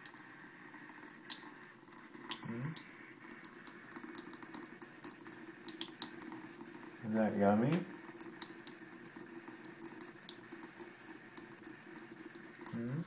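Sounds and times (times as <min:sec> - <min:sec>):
cat lapping water: 0:00.0 - 0:07.0, 0:07.9 - 0:13.0
water running into sink: 0:00.0 - 0:13.0.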